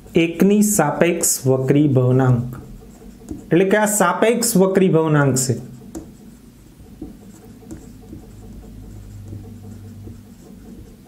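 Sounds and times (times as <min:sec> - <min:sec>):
marker squeaking on whiteboard: 0:00.0 - 0:04.7, 0:05.3 - 0:11.0
low steady hum: 0:00.0 - 0:11.0.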